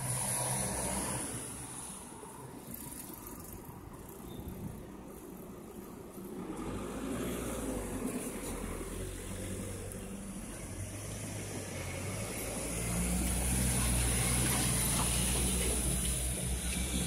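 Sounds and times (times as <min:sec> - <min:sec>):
passing car traffic: 0:00.0 - 0:17.0.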